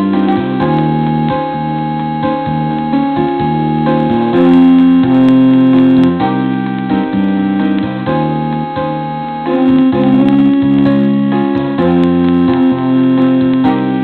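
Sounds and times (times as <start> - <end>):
keyboard playing held chords: 0.0 - 14.0.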